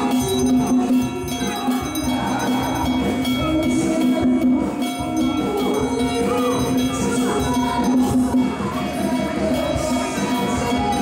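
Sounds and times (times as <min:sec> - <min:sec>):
held steady tone: 0:00.0 - 0:11.0
ringing metal percussion and bells: 0:00.0 - 0:11.0.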